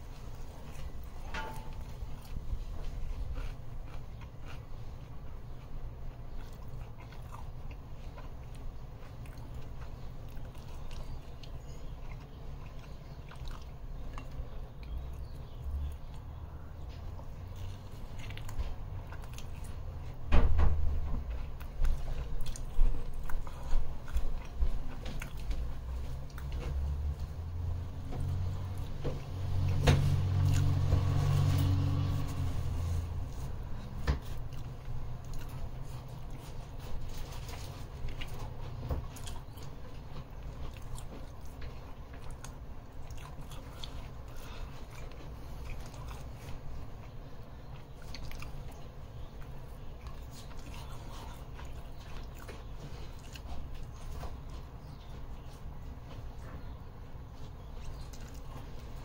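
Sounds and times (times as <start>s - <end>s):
biting and chewing wrap: 0.0s - 20.3s, 21.2s - 56.7s.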